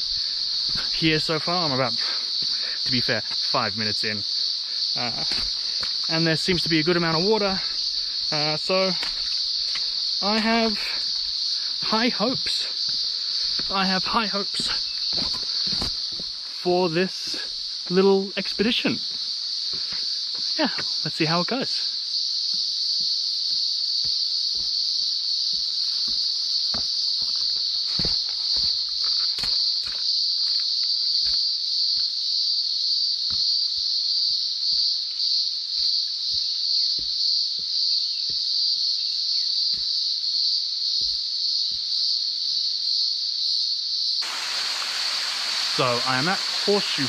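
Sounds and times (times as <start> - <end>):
cicadas buzzing: 0.0 - 47.0.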